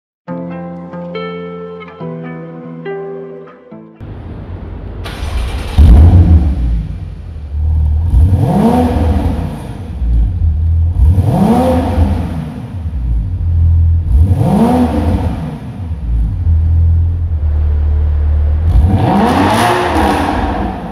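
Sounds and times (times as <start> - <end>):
car engine idling and revving: 4.0 - 20.9.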